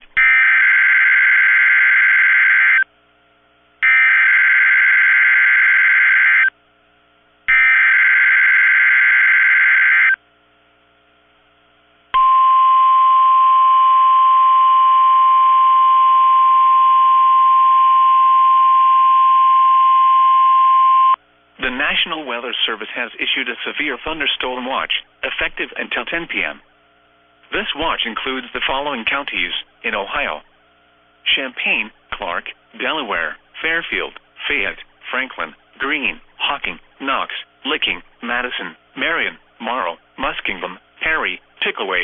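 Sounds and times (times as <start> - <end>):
steady warning alarm tone: 0.2 - 2.9, 3.8 - 6.5, 7.5 - 10.2, 12.2 - 21.2, 23.8 - 42.0.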